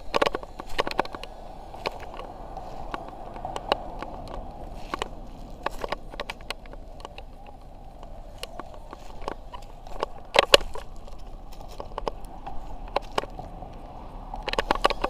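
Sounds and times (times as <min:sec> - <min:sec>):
light clicks: 0:00.0 - 0:15.0.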